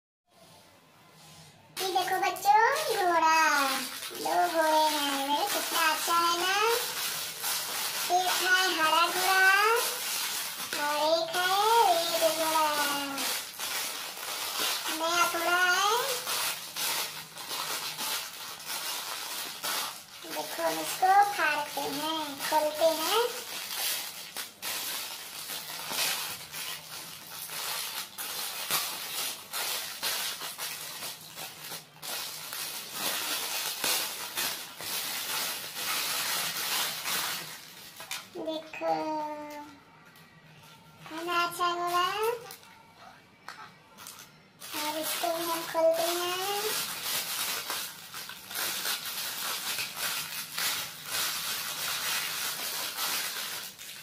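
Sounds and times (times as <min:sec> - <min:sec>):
plastic packaging crinkling: 0:01.8 - 0:40.4, 0:41.0 - 0:42.8, 0:43.4 - 0:54.0.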